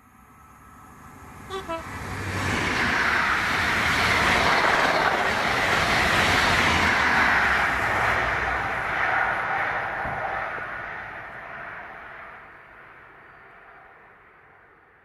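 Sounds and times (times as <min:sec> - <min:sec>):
wheels rushing on rail: 0:00.0 - 0:15.0.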